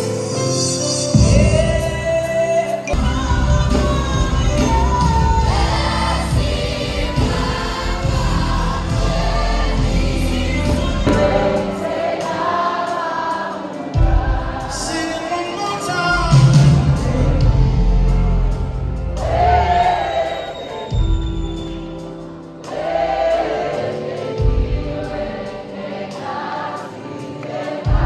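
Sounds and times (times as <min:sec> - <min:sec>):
band playing: 0:00.0 - 0:25.3
gospel choir singing: 0:00.0 - 0:28.0.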